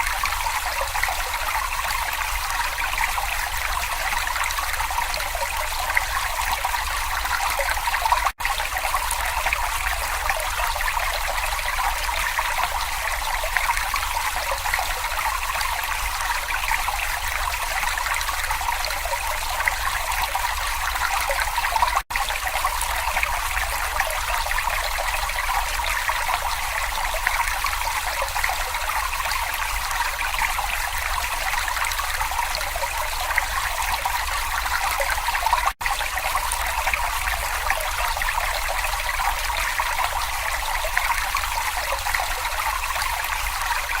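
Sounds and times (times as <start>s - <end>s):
brook water trickling: 0.0s - 44.0s.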